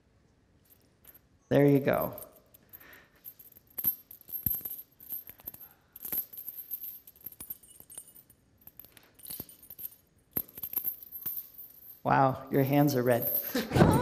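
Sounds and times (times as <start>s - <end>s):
metal chain clinking: 0.6s - 14.0s.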